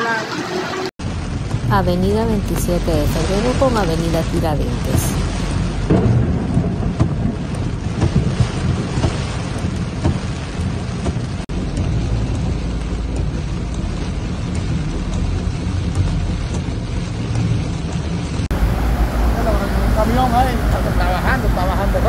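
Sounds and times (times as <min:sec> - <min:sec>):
low road rumble: 0:00.0 - 0:22.0
heavy rain on car roof: 0:01.0 - 0:22.0.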